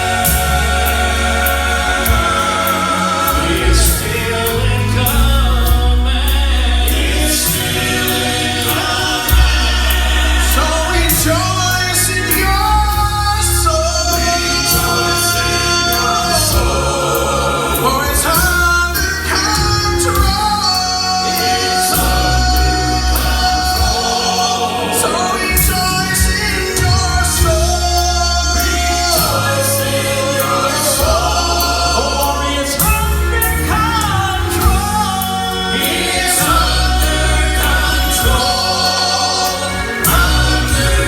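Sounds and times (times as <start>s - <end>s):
bass line: 0.0s - 41.0s
quartet singing in harmony: 0.0s - 41.0s.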